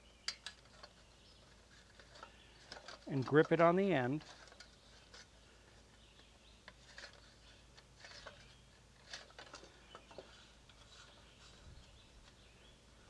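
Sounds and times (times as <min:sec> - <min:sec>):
faint spring clicks and scrapes: 0:00.2 - 0:12.5.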